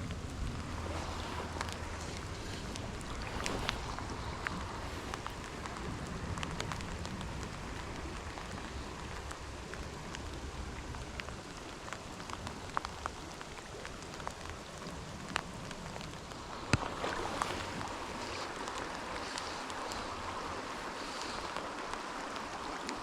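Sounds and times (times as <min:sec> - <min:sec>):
creek water rushing: 0:00.0 - 0:23.0
small ticks and drips: 0:00.0 - 0:23.0.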